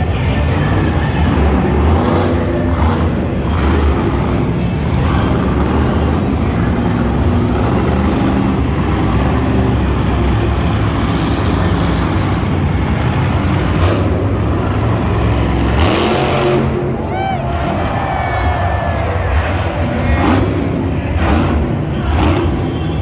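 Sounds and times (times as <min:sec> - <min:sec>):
monster truck engine: 0:00.0 - 0:23.0.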